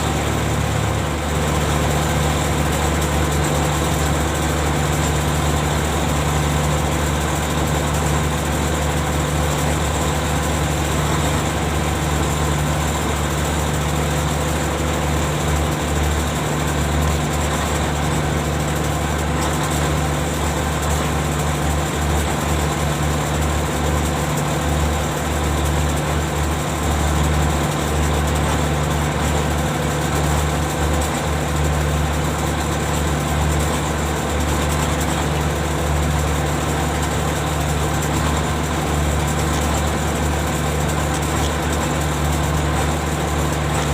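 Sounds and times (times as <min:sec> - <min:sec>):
ship machinery humming: 0:00.0 - 0:43.9.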